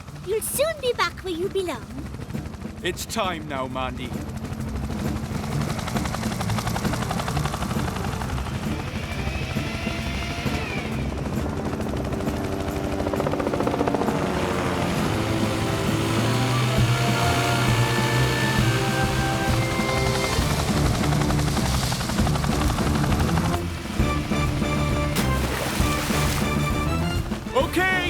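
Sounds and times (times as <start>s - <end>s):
background music: 0.0s - 28.0s
helicopter rotor chopping: 0.0s - 28.0s.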